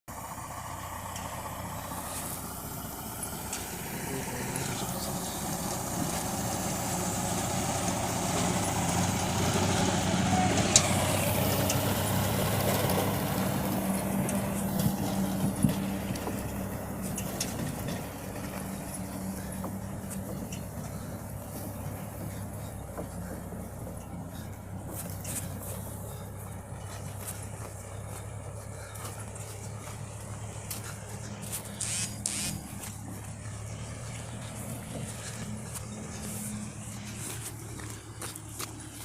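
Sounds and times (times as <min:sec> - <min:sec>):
tractor engine running: 0:00.1 - 0:39.0.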